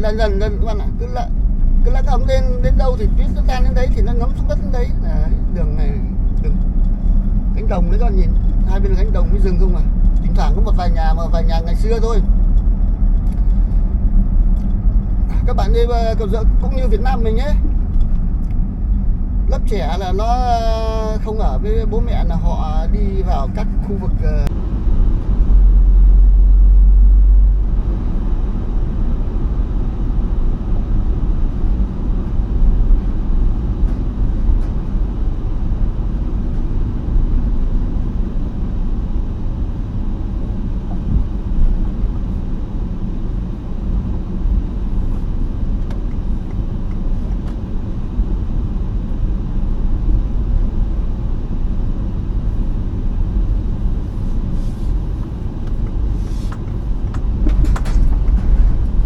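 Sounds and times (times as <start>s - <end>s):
tyres rumbling on snowy road: 0.0s - 59.0s.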